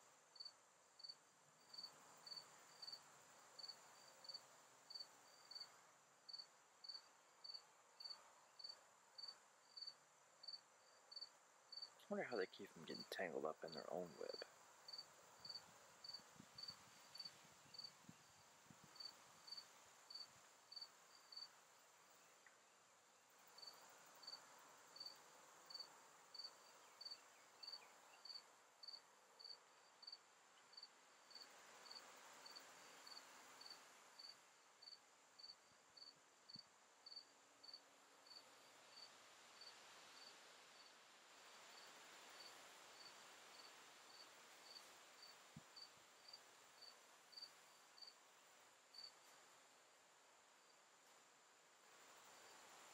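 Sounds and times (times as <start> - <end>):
cricket chirping: 0.0 - 52.9.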